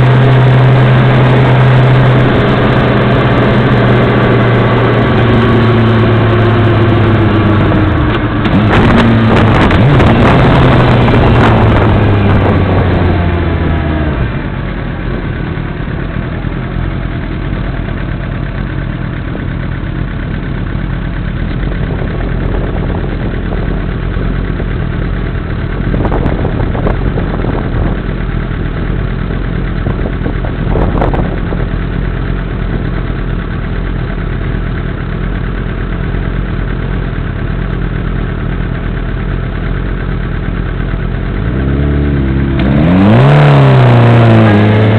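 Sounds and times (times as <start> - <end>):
motorcycle engine: 0.0 - 44.9.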